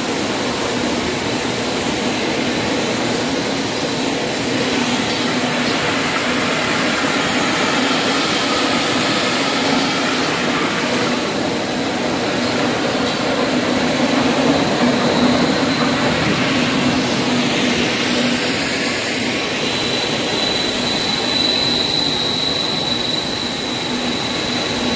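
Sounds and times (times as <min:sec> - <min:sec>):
thin high whine: 0:03.8 - 0:24.9.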